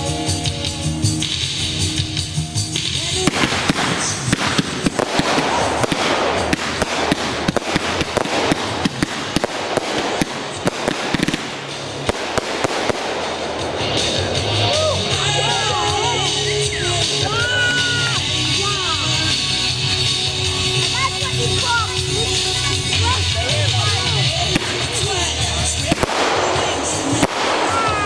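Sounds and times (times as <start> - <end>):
firework crackling and popping: 0.0 - 28.0
music: 0.0 - 28.0.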